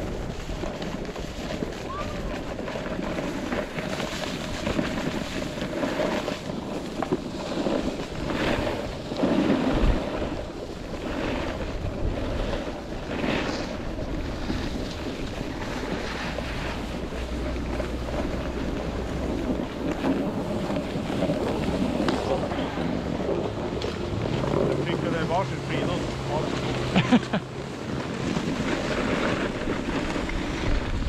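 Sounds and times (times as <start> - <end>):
skis scraping through snow: 0.0 - 31.0
wind buffeting microphone: 0.0 - 31.0.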